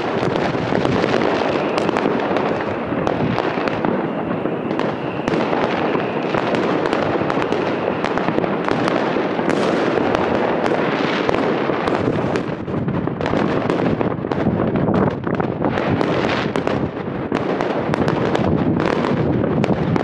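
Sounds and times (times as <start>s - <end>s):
fireworks bangs and pops: 0.0s - 20.0s.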